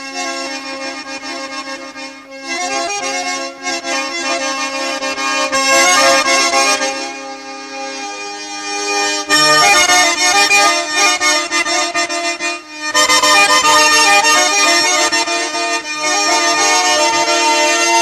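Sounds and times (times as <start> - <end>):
accordion-like tune: 0.0 - 18.0.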